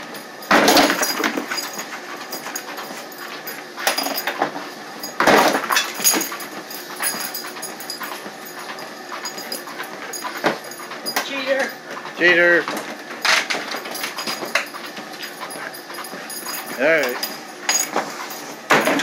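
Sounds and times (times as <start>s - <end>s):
treadmill running: 0.0s - 19.0s
dog paws knocking on treadmill: 0.1s - 19.0s.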